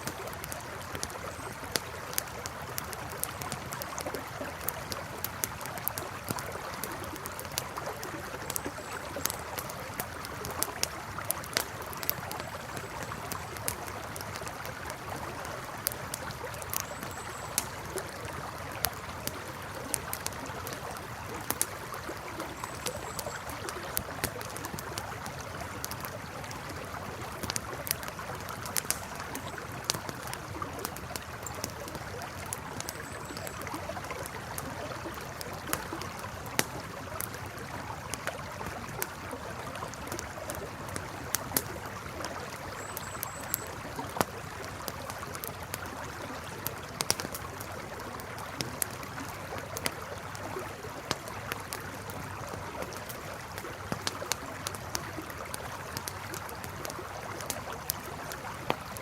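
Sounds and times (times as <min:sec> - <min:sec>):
campfire crackling: 0:00.0 - 0:59.0
river flowing: 0:00.0 - 0:59.0
sharp pops and snaps: 0:00.0 - 0:59.0.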